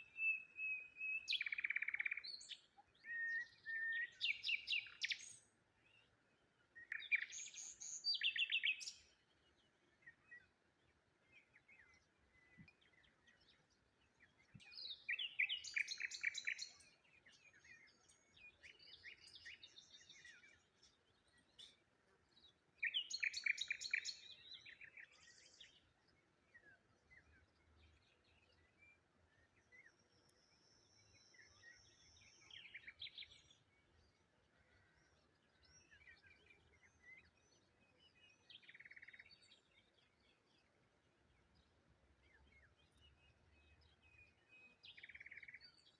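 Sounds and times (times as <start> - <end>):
birds singing and chirping: 0.0 - 10.5, 11.3 - 45.9.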